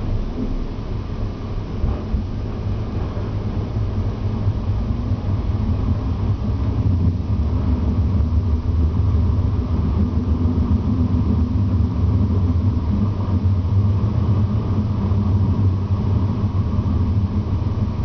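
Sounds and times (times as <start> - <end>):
tram rumbling along track: 0.0 - 18.0.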